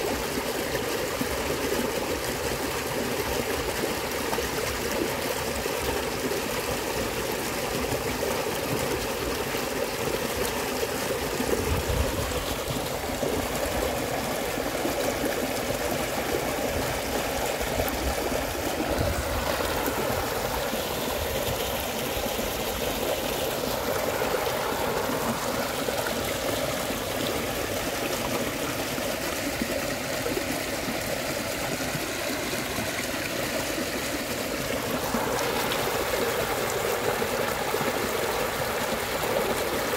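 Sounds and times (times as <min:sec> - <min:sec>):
stream rushing and splashing: 0:00.0 - 0:39.9.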